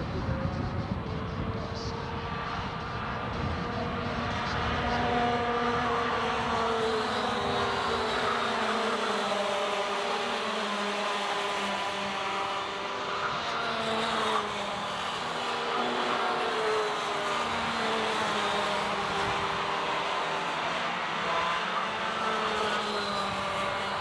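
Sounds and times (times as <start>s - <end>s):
go-kart engines revving: 0.0s - 24.0s.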